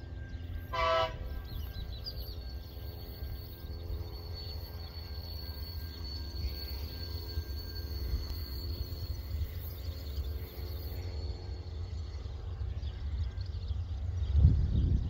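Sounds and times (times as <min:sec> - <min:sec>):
faint steady high tone: 0:00.0 - 0:13.2
diesel locomotive engines rumbling: 0:00.0 - 0:15.0.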